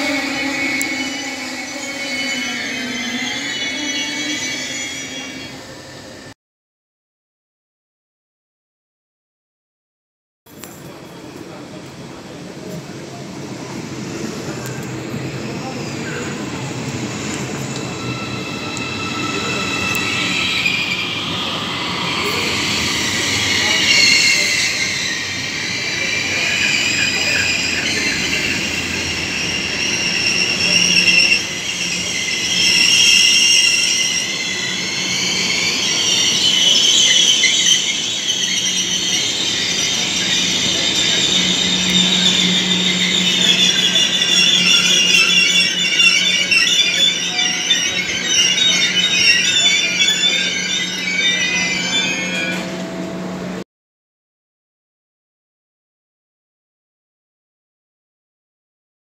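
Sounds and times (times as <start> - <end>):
train running inside passenger car: 0.0 - 6.4, 10.5 - 53.6.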